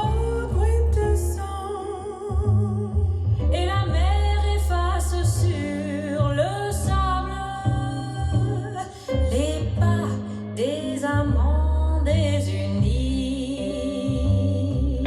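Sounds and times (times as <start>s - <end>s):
deep sustained bass notes: 0.0s - 15.0s
song with sung vocals: 0.0s - 15.0s.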